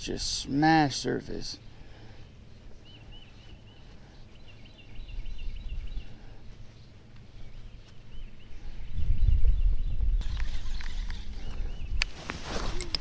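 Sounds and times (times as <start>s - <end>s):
songbird chirping: 0.0s - 13.0s.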